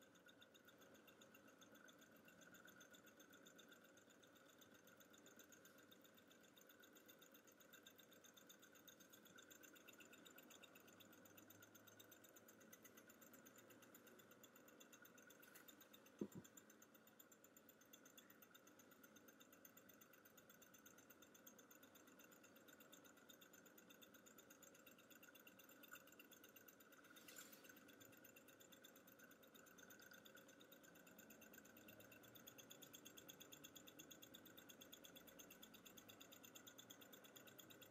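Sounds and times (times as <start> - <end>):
small engine ticking: 0.0 - 37.9.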